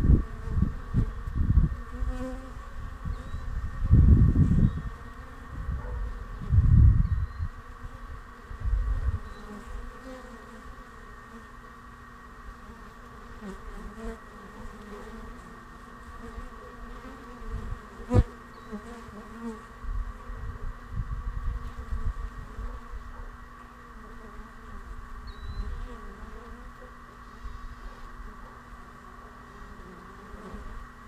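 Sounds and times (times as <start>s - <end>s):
bees buzzing: 0.0s - 31.0s.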